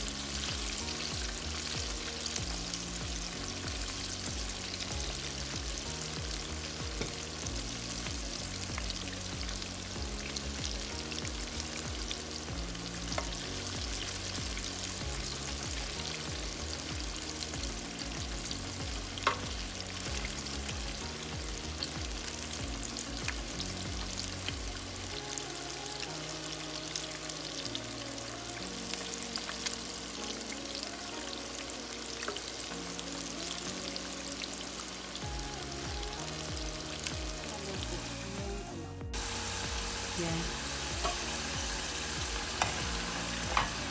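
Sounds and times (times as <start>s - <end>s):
chicken deep-frying in oil: 0.0s - 43.9s.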